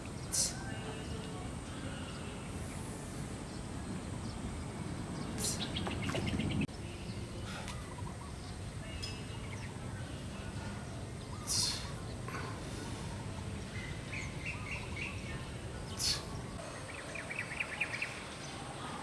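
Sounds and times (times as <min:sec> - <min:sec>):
birds chirping: 0:00.0 - 0:19.0
steady low background noise: 0:00.0 - 0:19.0.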